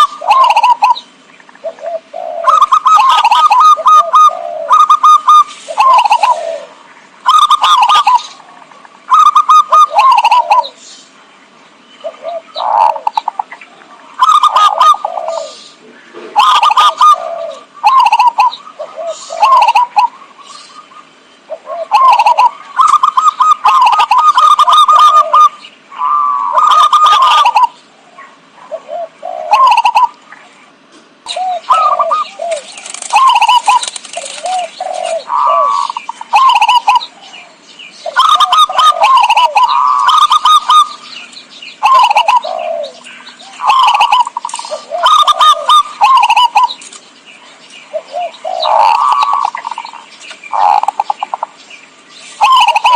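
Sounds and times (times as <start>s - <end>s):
dove cooing: 0.0s - 10.8s, 12.0s - 30.4s, 31.3s - 51.6s, 52.4s - 52.9s.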